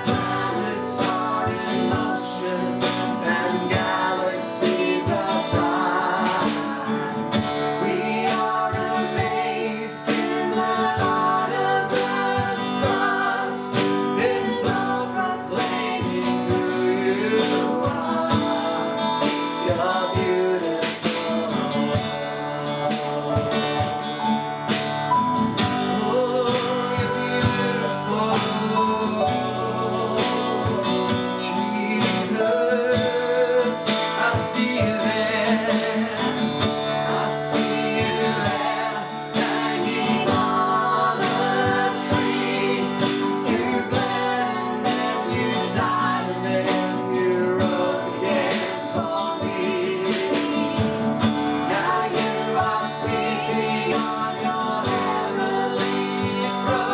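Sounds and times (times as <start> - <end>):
person singing worship song: 0.0 - 24.2, 25.4 - 56.9
full band playing: 0.0 - 56.9
strummed guitar: 0.0 - 56.9.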